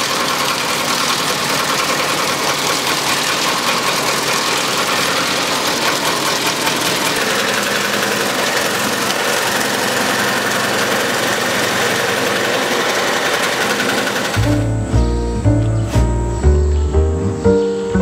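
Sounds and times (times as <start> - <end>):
wood shaving mill running: 0.0 - 16.0.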